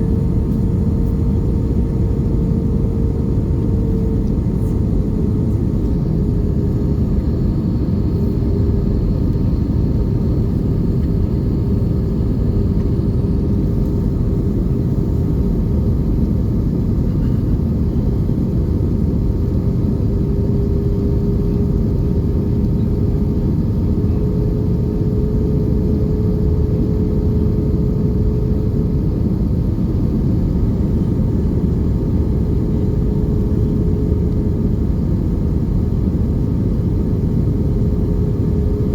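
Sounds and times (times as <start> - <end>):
jet engines and airflow roar: 0.0 - 38.9.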